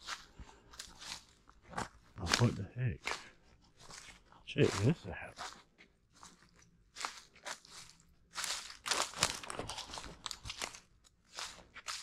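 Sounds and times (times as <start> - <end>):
footsteps crunching through dry leaves: 0.0 - 12.0.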